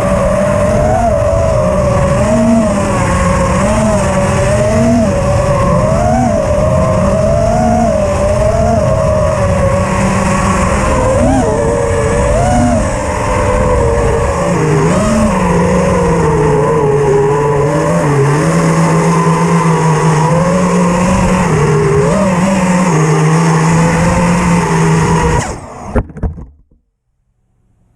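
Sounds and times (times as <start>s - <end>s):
wind rushing: 0.0s - 25.6s
drone motors whining: 0.0s - 26.7s.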